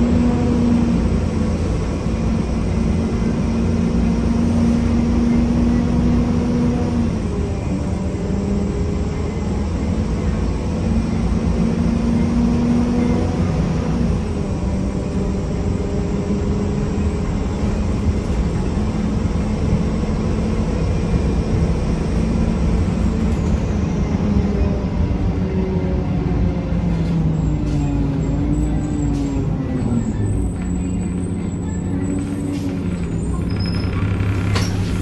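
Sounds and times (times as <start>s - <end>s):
bus diesel engine rumble: 0.0s - 35.0s.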